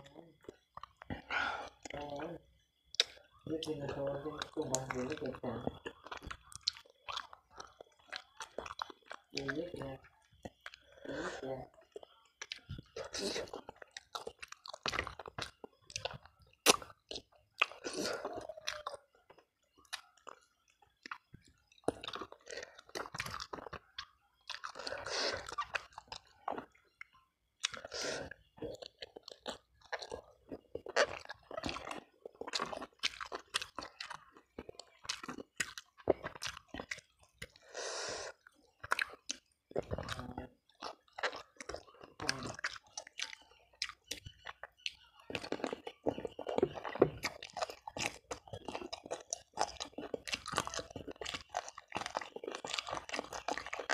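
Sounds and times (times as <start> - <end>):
person chewing and lip-smacking: 0.3 - 2.0, 2.6 - 53.9.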